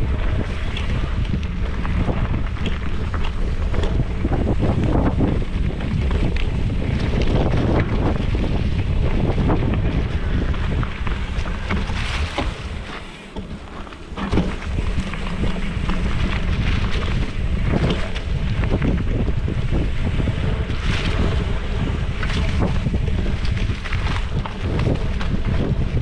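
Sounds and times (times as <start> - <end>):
bike clicks and rattles: 0.0 - 26.0
bike tires rolling on dirt: 0.0 - 26.0
wind buffeting microphone: 0.0 - 26.0.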